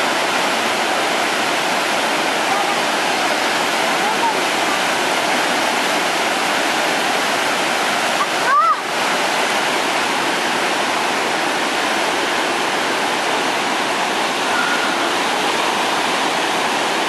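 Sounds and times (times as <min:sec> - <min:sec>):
water roaring through spillway: 0:00.0 - 0:17.0.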